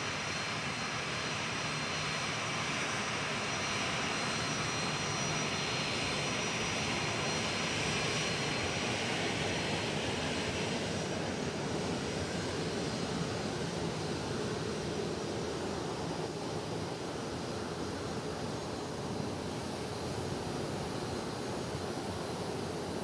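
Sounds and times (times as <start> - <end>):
jet engines whining: 0.1 - 23.0.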